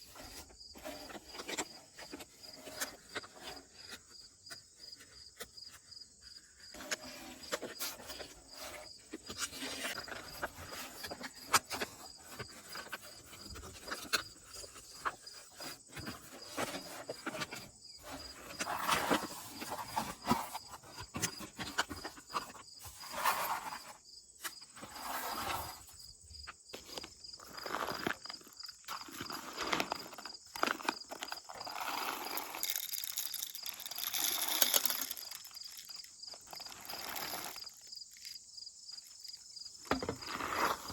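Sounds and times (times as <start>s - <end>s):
clicks and rustles of handling: 0.0s - 40.9s
insects chirping: 0.1s - 40.9s.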